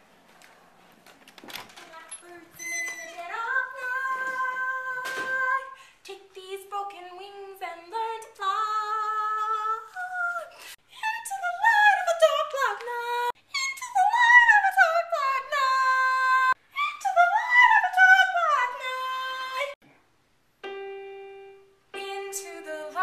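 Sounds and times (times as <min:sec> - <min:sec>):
person singing unaccompanied: 0:02.2 - 0:19.8, 0:21.9 - 0:23.0.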